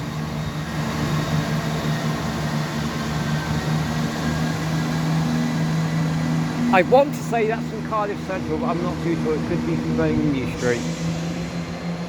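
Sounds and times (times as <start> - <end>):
train diesel engines droning: 0.0 - 12.0.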